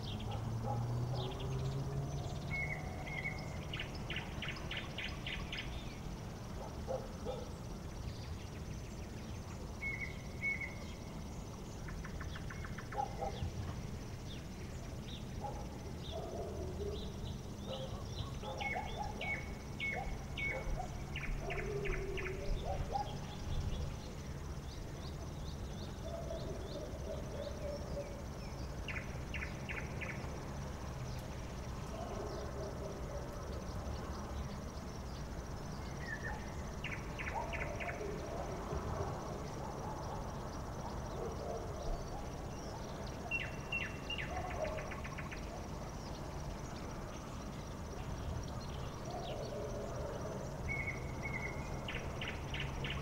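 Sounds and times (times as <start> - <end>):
high insect trill: 0.0 - 53.0.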